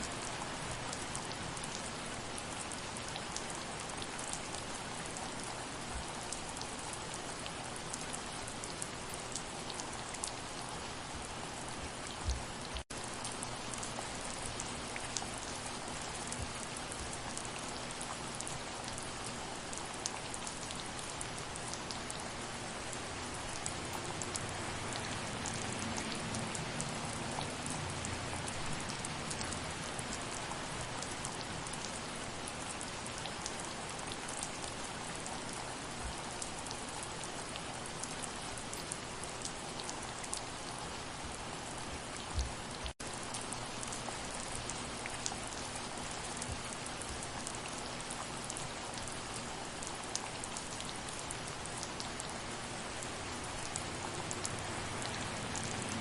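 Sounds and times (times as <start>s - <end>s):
soft rain: 0.0s - 56.0s.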